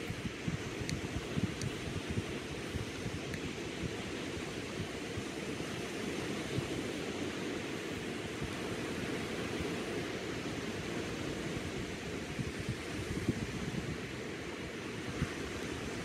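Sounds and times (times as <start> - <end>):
small waves breaking on sand: 0.0 - 16.0
wind rumbling on microphone: 0.0 - 16.0.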